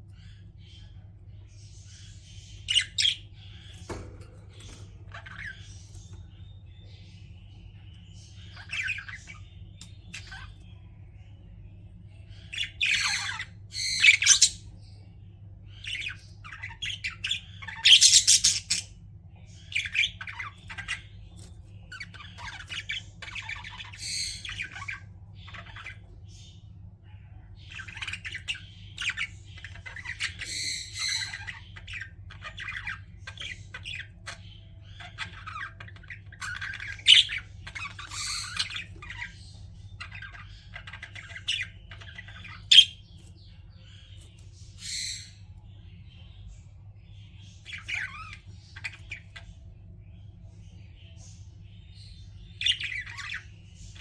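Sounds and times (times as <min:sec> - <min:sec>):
budgerigars chirping and squawking: 0:00.0 - 0:54.0
steady low hum: 0:00.0 - 0:54.0.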